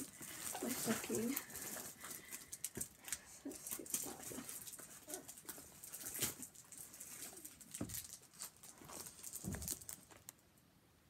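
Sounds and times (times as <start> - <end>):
rustling packaged gifts: 0.0 - 10.6.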